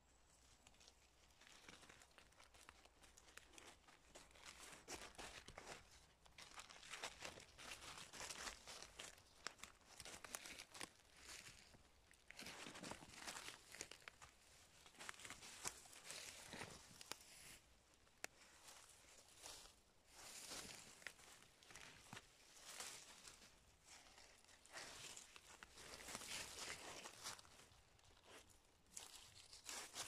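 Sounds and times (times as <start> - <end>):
dry leaves rustling and crackling: 0.8 - 17.6, 18.4 - 30.0.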